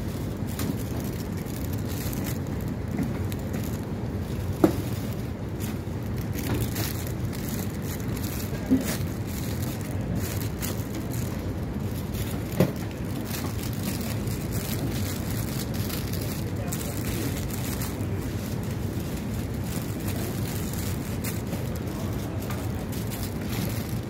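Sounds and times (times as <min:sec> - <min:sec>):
low background rumble: 0:00.0 - 0:24.0
plastic sleeves rustling: 0:00.0 - 0:24.0.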